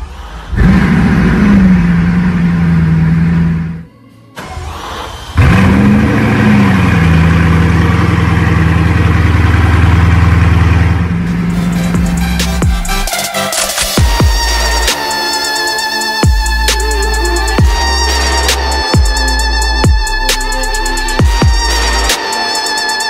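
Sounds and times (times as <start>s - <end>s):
car engine starting and idling: 0.0s - 23.0s.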